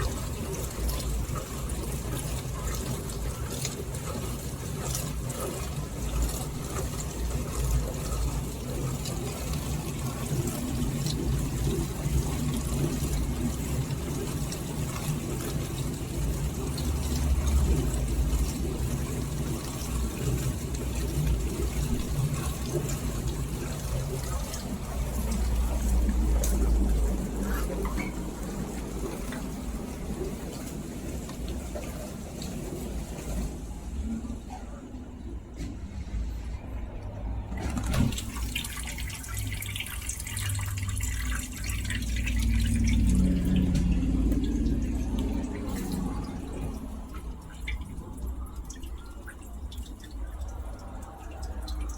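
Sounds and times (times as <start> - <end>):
dishwasher low hum: 0.0 - 51.9
dishwasher water splashing: 0.0 - 51.9.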